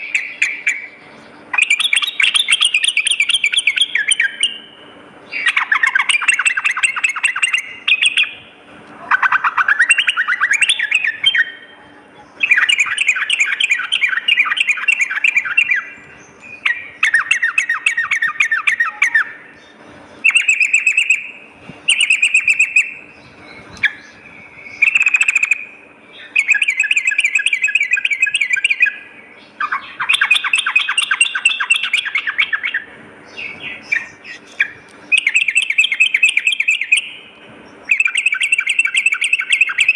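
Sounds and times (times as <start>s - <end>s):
bird chattering song: 0.0s - 39.9s
faint steady hum: 0.0s - 39.9s.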